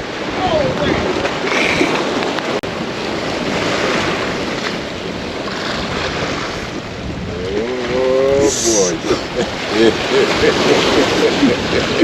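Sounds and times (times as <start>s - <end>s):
ocean surf rushing: 0.0s - 12.0s
wind buffeting microphone: 0.0s - 12.0s.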